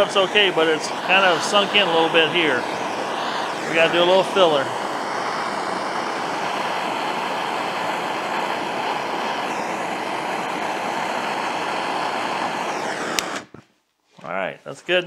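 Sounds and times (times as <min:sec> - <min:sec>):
gas torch flame hissing: 0:00.0 - 0:13.6
torch click: 0:00.0 - 0:13.6.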